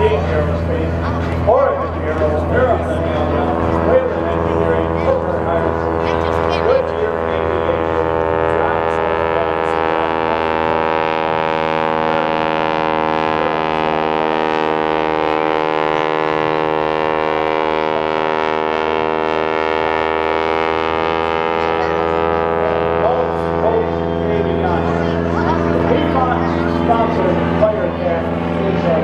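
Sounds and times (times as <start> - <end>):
steady engine drone: 0.0 - 29.0.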